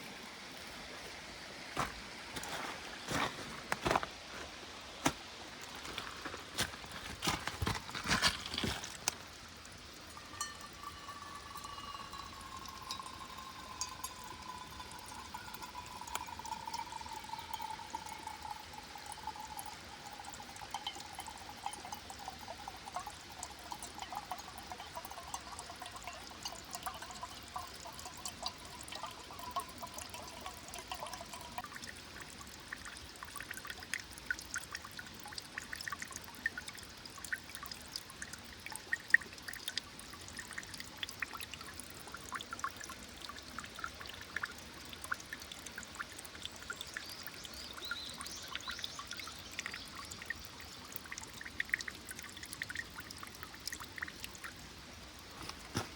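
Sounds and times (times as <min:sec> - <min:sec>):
water pouring in thin stream: 0:00.0 - 0:55.9
water dripping: 0:00.5 - 0:55.9.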